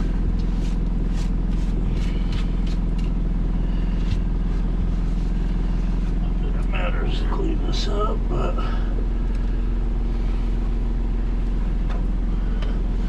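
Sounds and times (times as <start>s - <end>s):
steady motor drone: 0.0s - 13.0s.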